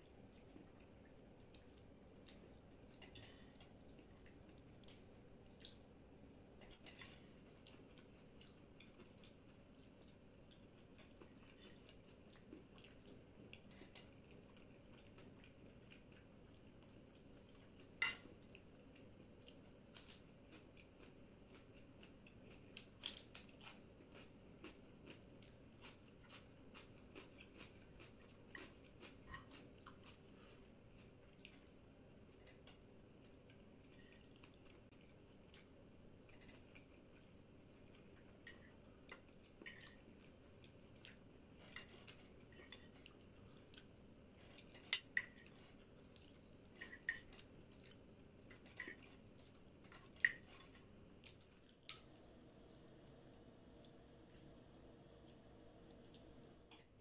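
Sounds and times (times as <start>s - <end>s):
chewing food: 0.0s - 54.5s.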